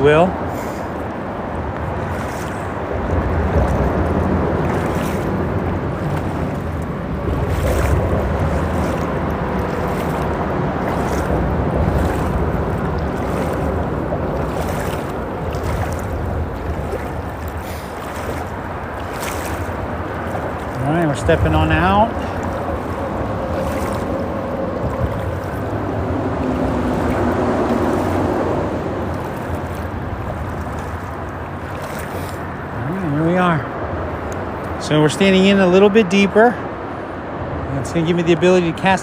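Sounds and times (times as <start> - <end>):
creek water rushing: 0.0 - 39.0
freeway traffic rumble: 0.0 - 39.0
water splashes: 0.0 - 39.0.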